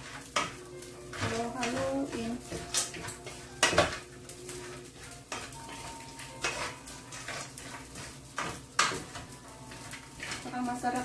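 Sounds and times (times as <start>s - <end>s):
spatula scraping in frying pan: 0.0s - 11.0s.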